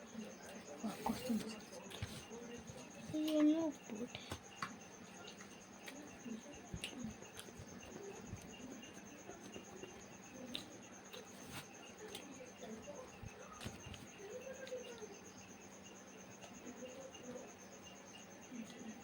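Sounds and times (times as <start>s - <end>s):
quiet eating sounds: 0.0s - 19.0s.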